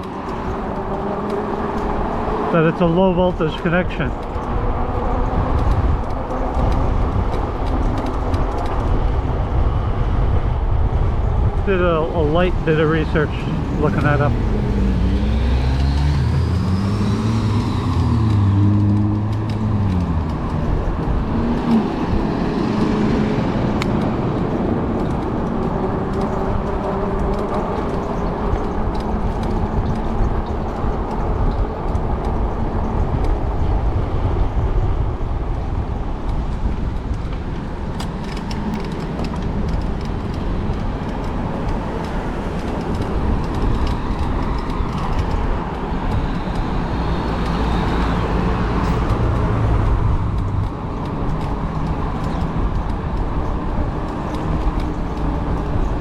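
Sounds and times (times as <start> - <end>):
motor traffic: 0.0 - 56.0
wind noise on microphone: 3.7 - 56.0.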